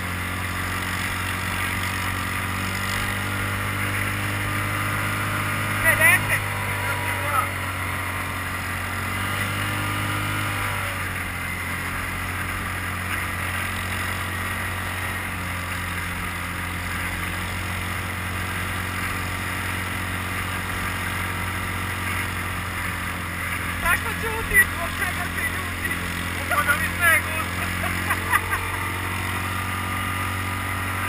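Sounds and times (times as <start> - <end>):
quad bike engine running: 0.0 - 31.0.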